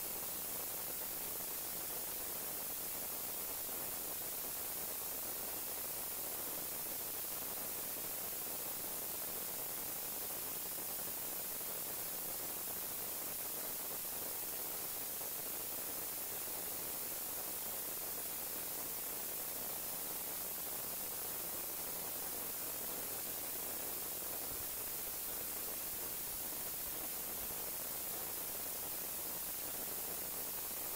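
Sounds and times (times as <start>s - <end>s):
steady static hiss: 0.0s - 30.9s.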